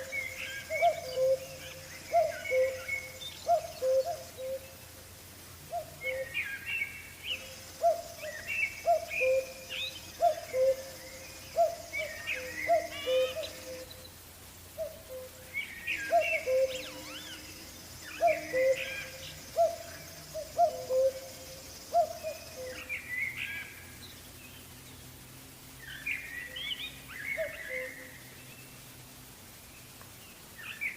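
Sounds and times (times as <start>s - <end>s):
birds chirping and trilling: 0.0s - 5.0s, 5.6s - 29.0s
steady high hiss: 0.0s - 30.9s.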